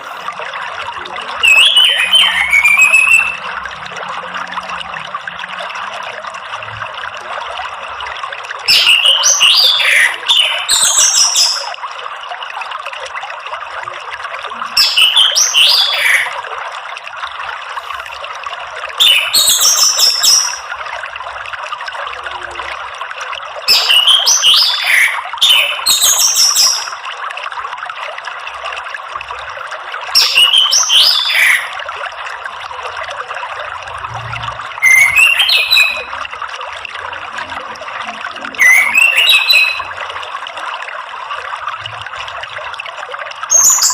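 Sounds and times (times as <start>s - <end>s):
running water: 0.0s - 43.9s.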